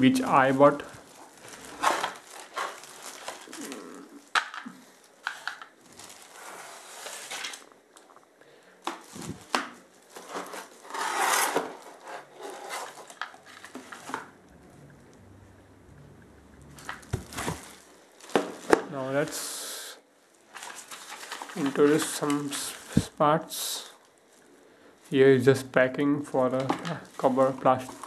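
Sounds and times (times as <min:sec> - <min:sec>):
plastic and cardboard rustling: 0:00.2 - 0:08.2, 0:08.8 - 0:19.5, 0:20.4 - 0:23.2, 0:26.4 - 0:28.0.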